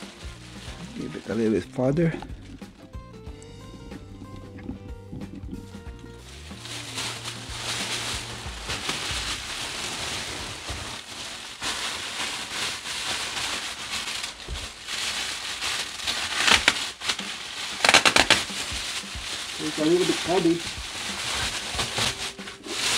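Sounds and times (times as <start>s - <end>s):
plastic wrapping crinkling: 0.0s - 2.9s, 3.7s - 22.9s.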